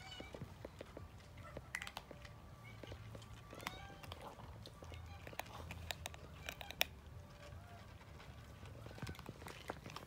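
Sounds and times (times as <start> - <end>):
cat crunching dry kibble: 0.0 - 10.0.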